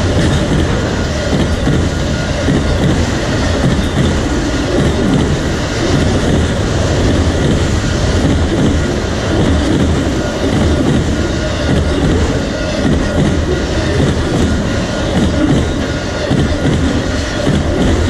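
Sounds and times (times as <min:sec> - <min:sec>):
freight train wheels clattering: 0:00.0 - 0:18.0.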